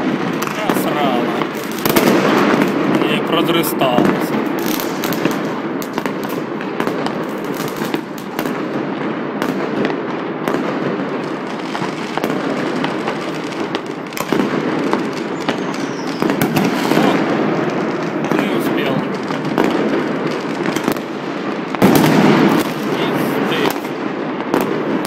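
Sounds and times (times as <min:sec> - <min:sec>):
fireworks and firecrackers crackling: 0:00.0 - 0:25.0.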